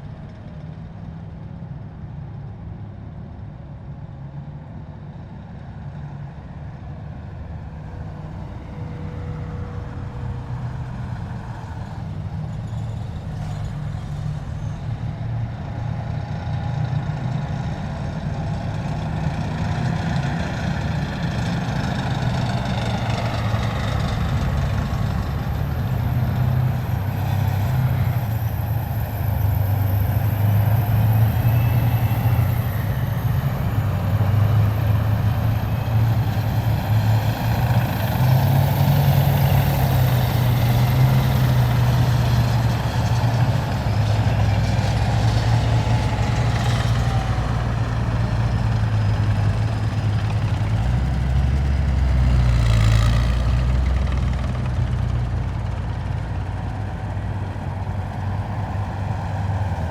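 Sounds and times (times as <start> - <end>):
heavy vehicle engines rumbling: 0.0 - 59.9.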